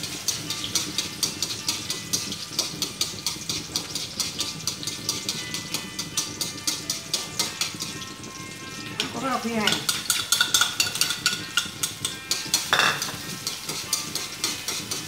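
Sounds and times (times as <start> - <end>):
onions sizzling in a wok: 0.0 - 15.0.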